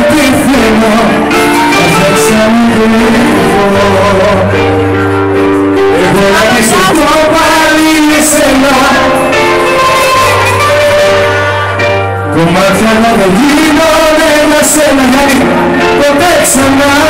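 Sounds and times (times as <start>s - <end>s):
person singing with band: 0.0s - 4.7s, 5.8s - 17.0s.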